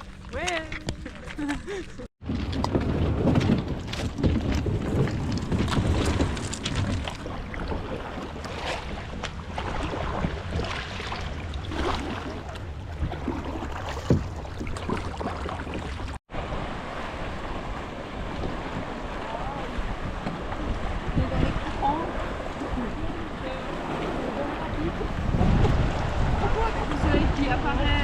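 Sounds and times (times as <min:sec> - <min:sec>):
water lapping around a kayak: 0:00.0 - 0:28.0
wind buffeting microphone: 0:00.0 - 0:28.0.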